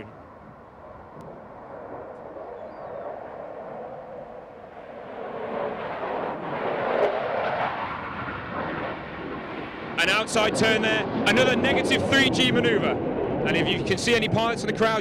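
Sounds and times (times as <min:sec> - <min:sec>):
fighter jet flying past: 0:00.0 - 0:15.0.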